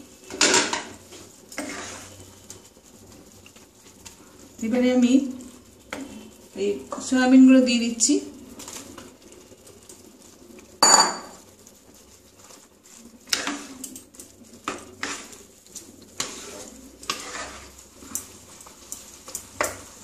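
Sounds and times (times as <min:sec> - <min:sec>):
wooden spatula scraping pan: 0:00.0 - 0:09.3, 0:11.2 - 0:20.0.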